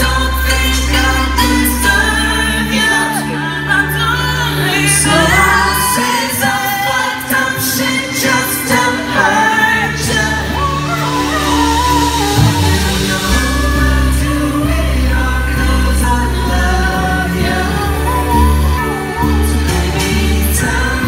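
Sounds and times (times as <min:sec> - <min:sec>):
band accompaniment: 0:00.0 - 0:21.0
woman singing into a microphone: 0:00.0 - 0:21.0.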